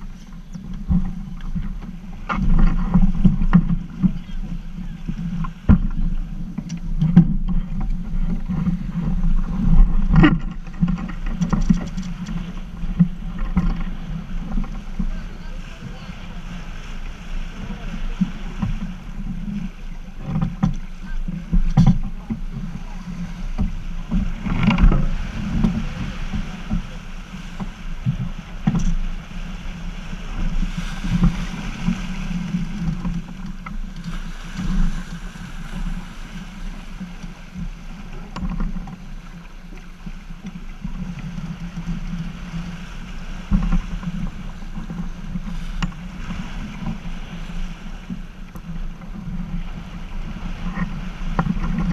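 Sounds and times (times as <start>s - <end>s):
water rushing past hull: 0.0s - 51.9s
wind buffeting microphone: 0.0s - 51.9s.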